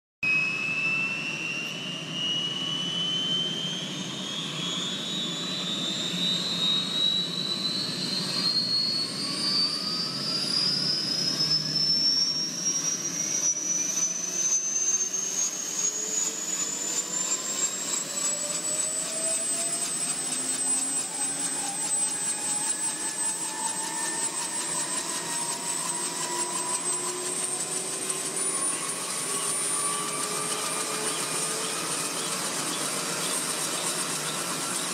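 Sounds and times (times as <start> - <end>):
helicopter engine whine: 0.2 - 34.9
helicopter rotors spinning up: 0.8 - 34.9.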